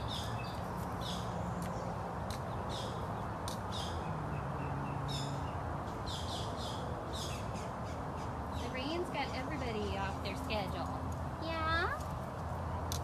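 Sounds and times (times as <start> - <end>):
birds chirping: 0.0 - 13.0
outdoor background noise: 0.0 - 13.0.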